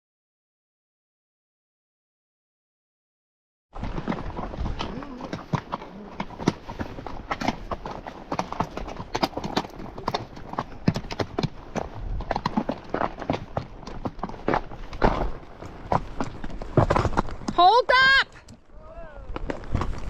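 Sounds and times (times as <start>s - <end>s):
horse hooves clopping: 3.8s - 20.0s.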